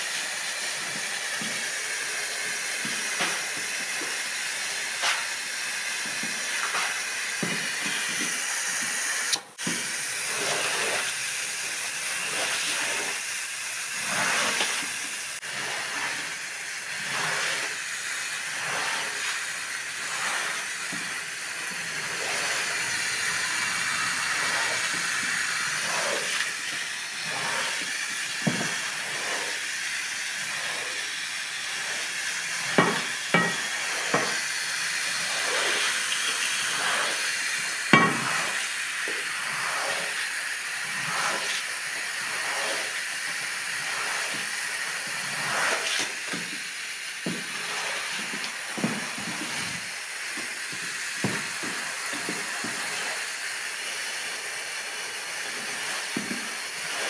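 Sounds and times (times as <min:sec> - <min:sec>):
pressure washer spraying rug: 0:00.0 - 0:57.0.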